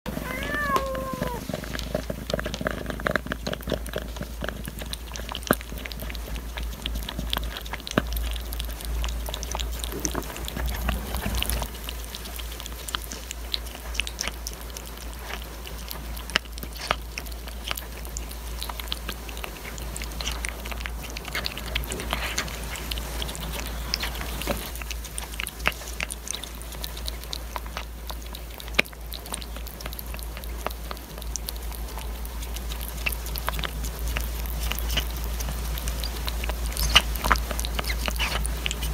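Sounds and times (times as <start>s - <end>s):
cat chewing and licking: 0.1s - 38.9s.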